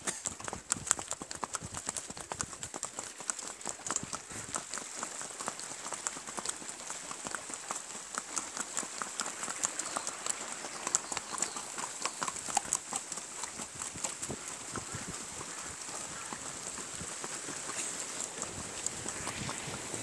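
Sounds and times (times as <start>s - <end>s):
horse hooves clip-clopping on trail: 0.0s - 20.0s.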